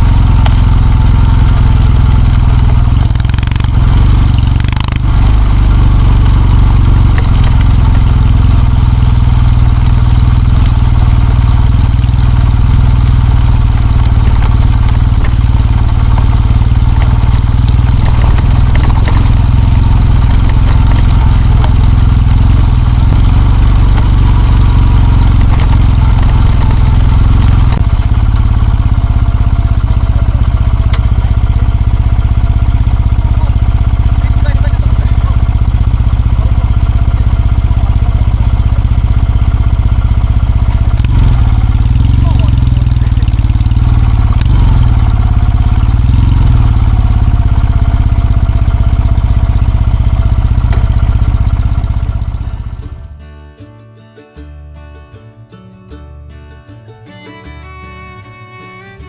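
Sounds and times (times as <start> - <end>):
motorcycle engine running: 0.0 - 53.3.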